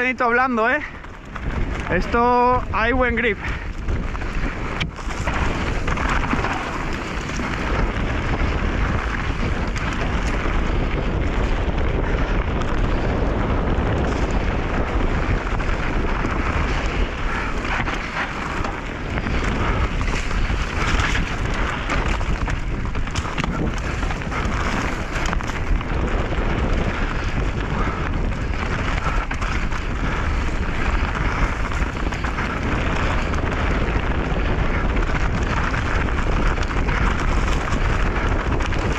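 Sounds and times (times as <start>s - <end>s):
bike rattling over bumps: 0.0s - 38.9s
bike tyres rolling on dirt: 0.0s - 38.9s.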